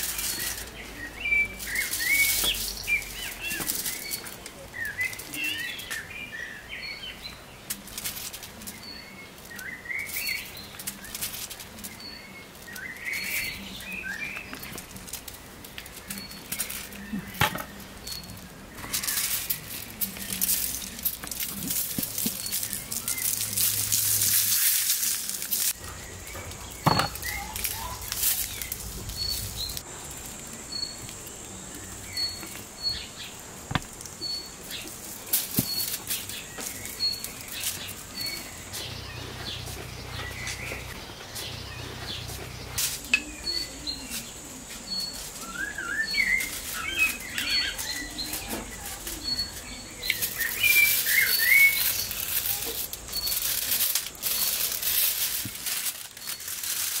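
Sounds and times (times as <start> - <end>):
aluminium foil crinkling: 0.0 - 6.3, 7.2 - 57.0
small birds chirping: 0.0 - 57.0.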